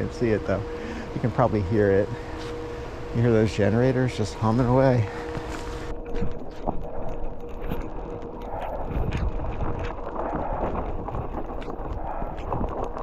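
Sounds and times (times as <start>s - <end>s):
bike tyres rumbling on snow: 0.0s - 13.0s
distant generator hum: 0.0s - 13.0s.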